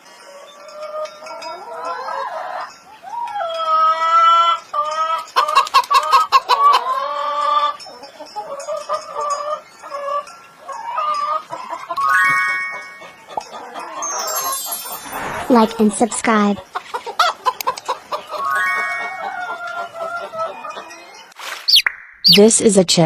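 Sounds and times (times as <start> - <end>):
chickens squawking and clucking: 0.1 - 21.4.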